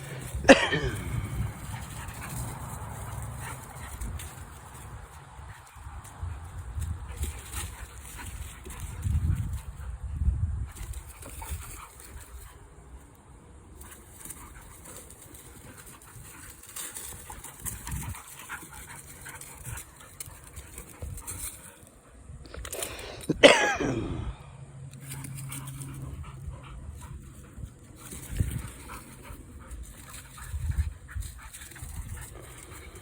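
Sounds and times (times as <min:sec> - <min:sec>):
dogs scuffling: 0:00.0 - 0:09.9, 0:13.7 - 0:23.4, 0:25.0 - 0:33.0.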